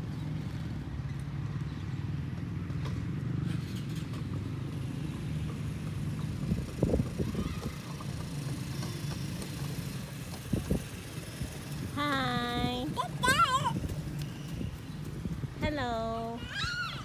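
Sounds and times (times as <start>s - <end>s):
motorcycle engine running: 2.4s - 16.1s.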